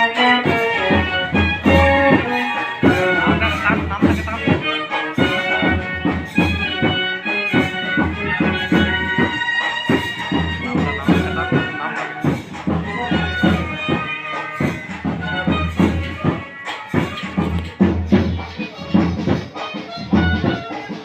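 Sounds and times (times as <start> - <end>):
fast steady drum beat: 0.0 - 21.0
reedy melody: 0.0 - 21.0.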